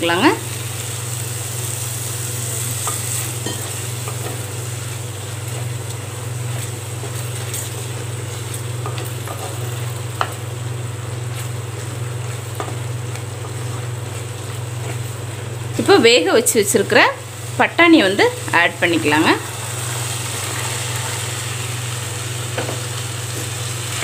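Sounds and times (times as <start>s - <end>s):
food sizzling: 0.0s - 24.0s.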